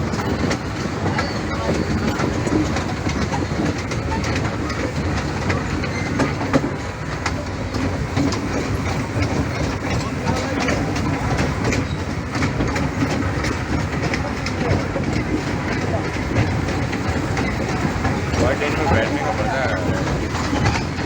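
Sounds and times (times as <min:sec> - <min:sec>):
toy train rumbling: 0:00.0 - 0:21.0
wheels clacking over rail joints: 0:00.0 - 0:21.0.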